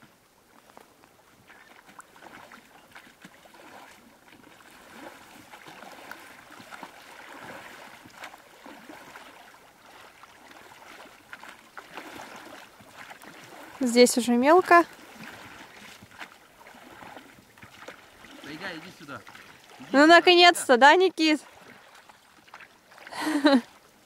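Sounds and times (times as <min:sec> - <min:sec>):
river water splashing: 0:00.0 - 0:24.0.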